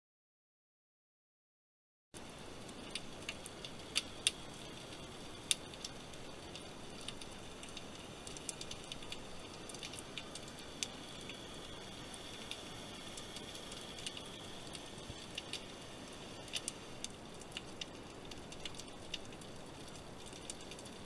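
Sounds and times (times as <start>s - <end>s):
sharp underwater clicks and crackles: 2.2s - 21.0s.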